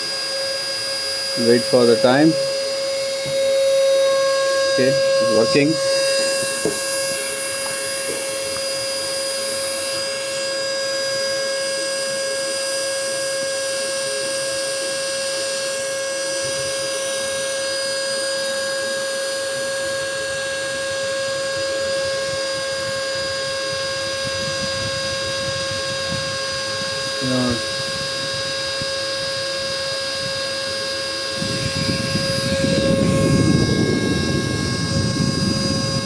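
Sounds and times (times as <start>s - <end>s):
vacuum cleaner motor whining: 0.0s - 36.0s.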